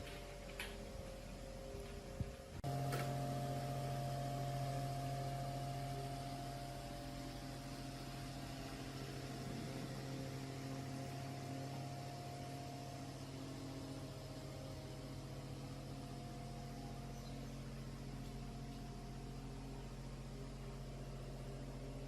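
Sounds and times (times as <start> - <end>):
fan motor humming: 0.0 - 22.0.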